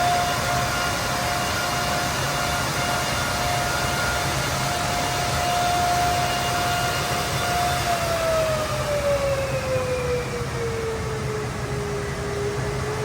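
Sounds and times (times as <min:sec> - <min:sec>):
cooling fans whining: 0:00.0 - 0:13.0.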